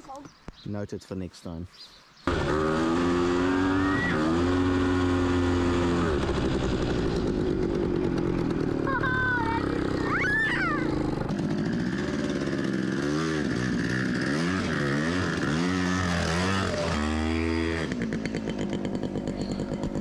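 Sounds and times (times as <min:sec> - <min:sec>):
off-road motorcycle engine revving: 0:02.2 - 0:20.0.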